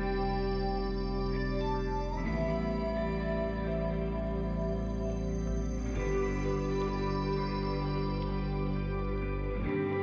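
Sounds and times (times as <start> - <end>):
slow sustained chords: 0.0 - 10.0.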